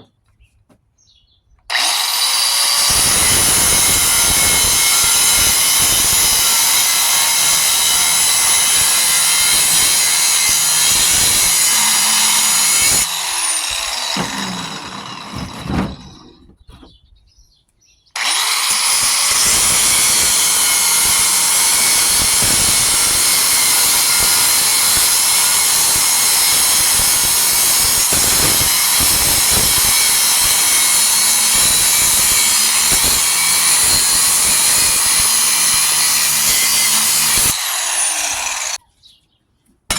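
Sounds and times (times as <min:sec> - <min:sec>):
power tool cutting steel: 0:01.7 - 0:16.5, 0:18.2 - 0:38.8.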